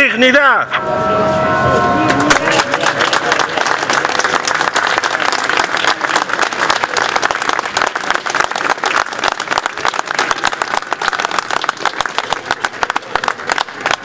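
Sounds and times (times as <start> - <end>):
crowd applauding: 2.0 - 14.0.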